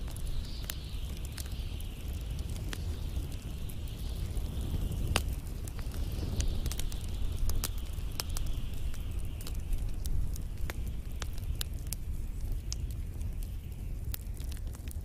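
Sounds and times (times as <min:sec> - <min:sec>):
flames rumbling and hissing: 0:00.0 - 0:15.0
pine cones crackling in fire: 0:00.0 - 0:15.0.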